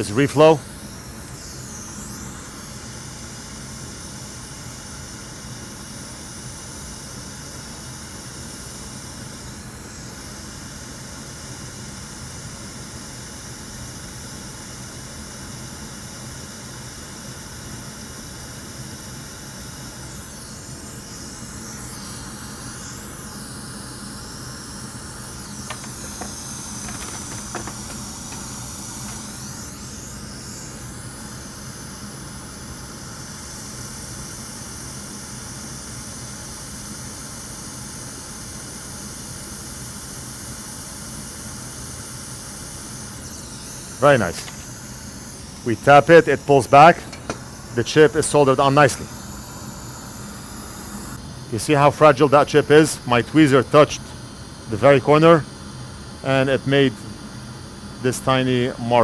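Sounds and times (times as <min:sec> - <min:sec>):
hot air station hissing: 0:00.0 - 0:59.0.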